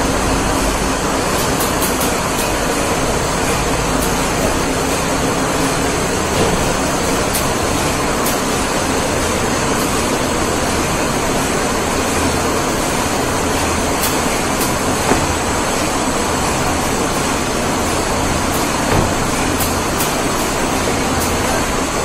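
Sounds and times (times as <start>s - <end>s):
conveyor mechanical running noise: 0.0s - 22.0s.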